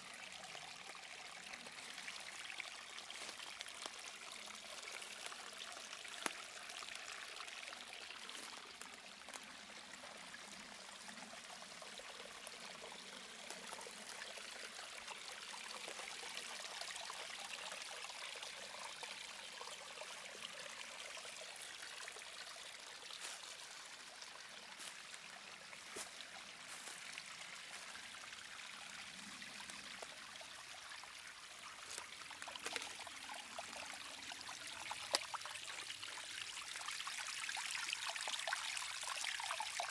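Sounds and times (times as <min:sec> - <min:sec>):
brook trickling over rocks: 0:00.0 - 0:39.9.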